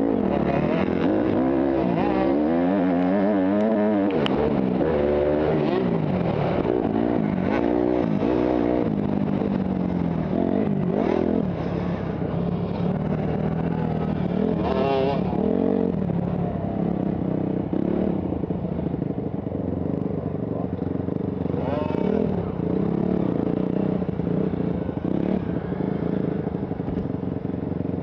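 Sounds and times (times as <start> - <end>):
dirt bike engine revving: 0.0 - 18.6, 20.6 - 26.8
other dirt bike engines: 0.0 - 28.0.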